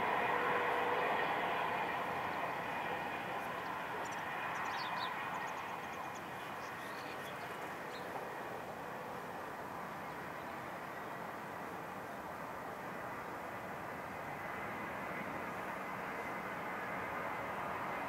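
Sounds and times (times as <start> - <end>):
distant jet engines roaring: 0.0 - 18.0.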